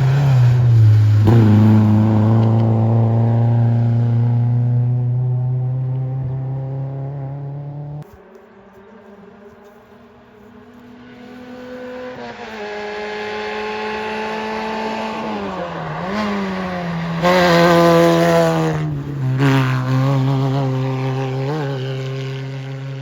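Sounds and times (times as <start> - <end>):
rally car engine revving: 0.0 - 8.0, 9.2 - 23.0.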